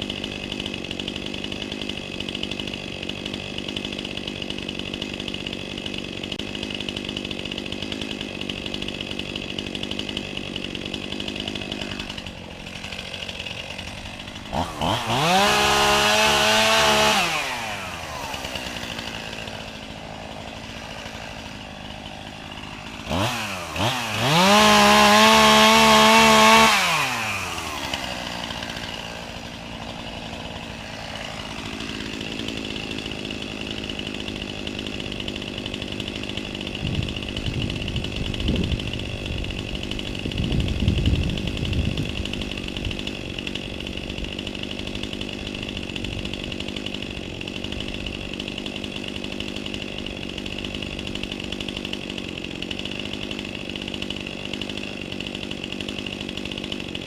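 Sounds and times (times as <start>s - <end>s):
chainsaw engine revving and idling: 0.0s - 57.0s.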